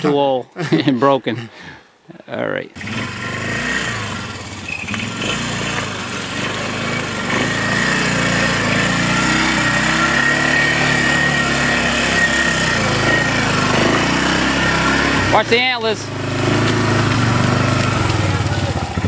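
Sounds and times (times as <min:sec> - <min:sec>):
atv engine running: 0:02.8 - 0:19.0.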